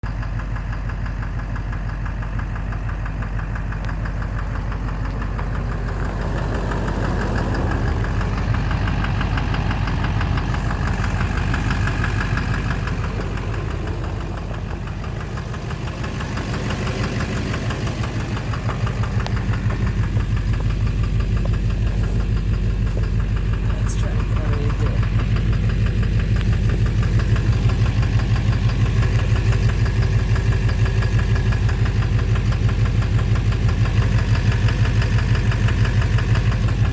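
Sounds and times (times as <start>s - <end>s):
diesel engine knocking: 0.0s - 36.9s.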